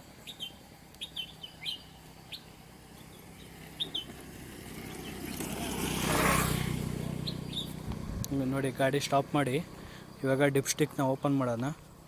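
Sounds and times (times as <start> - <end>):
birds chirping: 0.0 - 12.0
scooter engine idling: 0.4 - 12.0.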